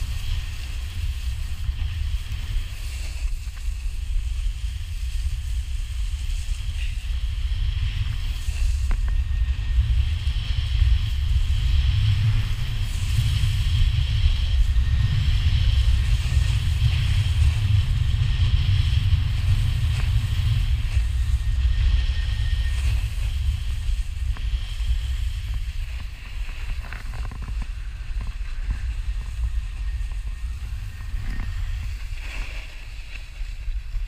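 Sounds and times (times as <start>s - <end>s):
snowboard scraping on snow: 0.0s - 34.0s
wind buffeting microphone: 0.0s - 34.0s.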